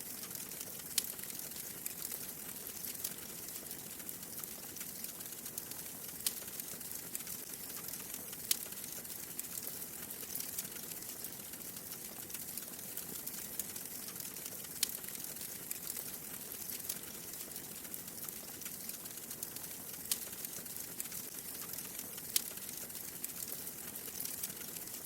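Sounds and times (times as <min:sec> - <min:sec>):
fire crackling: 0:00.1 - 0:25.0.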